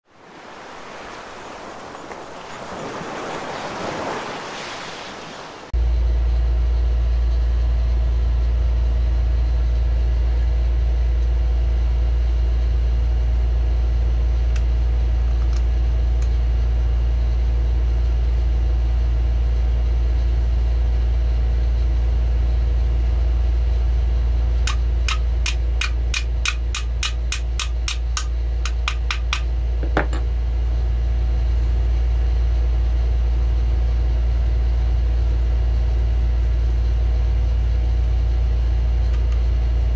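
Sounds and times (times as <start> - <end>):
steady low hum: 5.6 - 39.9.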